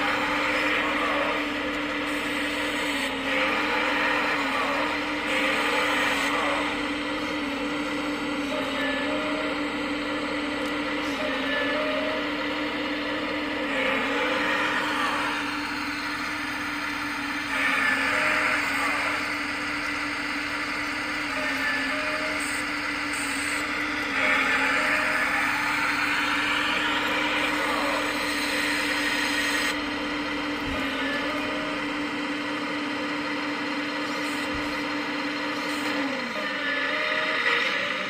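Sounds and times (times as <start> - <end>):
hydraulic pump whine: 0.0 - 38.0.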